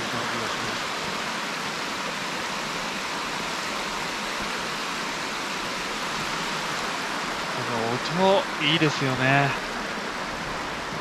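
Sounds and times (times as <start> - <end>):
water cascading over bedrock: 0.0 - 11.0.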